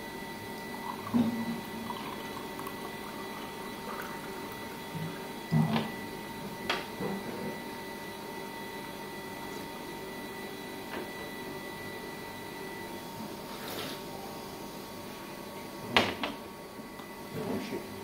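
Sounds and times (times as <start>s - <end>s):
appliance hum: 0.0s - 18.0s.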